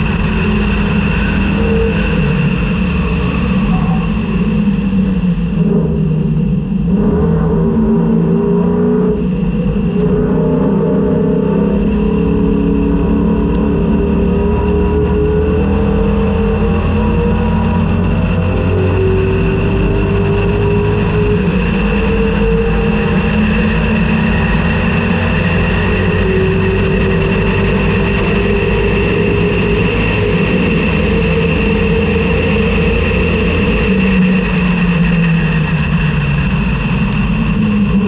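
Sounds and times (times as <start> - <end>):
race car engine from inside: 0.0 - 38.0
steady high whine: 0.0 - 38.0.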